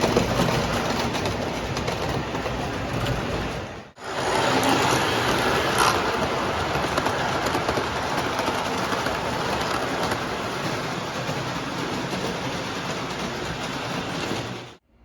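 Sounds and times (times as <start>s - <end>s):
model trains rumbling and clattering: 0.0s - 14.8s.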